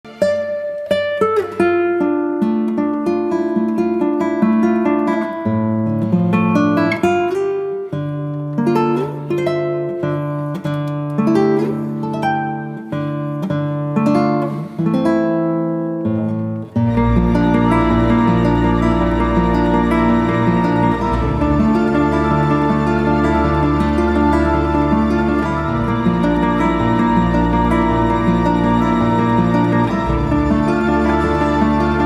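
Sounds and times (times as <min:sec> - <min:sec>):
acoustic guitar music: 0:00.0 - 0:32.0.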